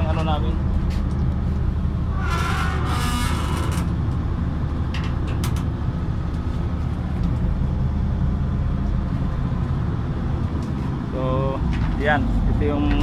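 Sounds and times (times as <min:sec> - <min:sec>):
generator engine droning: 0:00.0 - 0:13.0.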